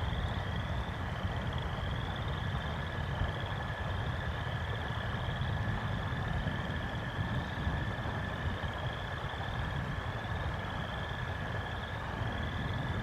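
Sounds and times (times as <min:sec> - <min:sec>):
frogs pulsed trills: 0:00.0 - 0:13.0.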